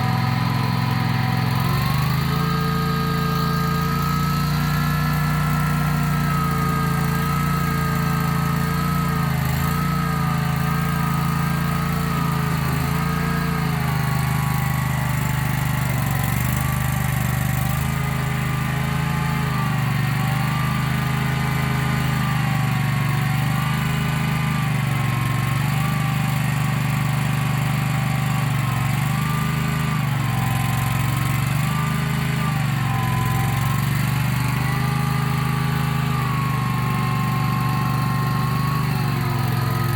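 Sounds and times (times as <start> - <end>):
gasoline engine running: 0.0 - 23.7, 26.8 - 39.9.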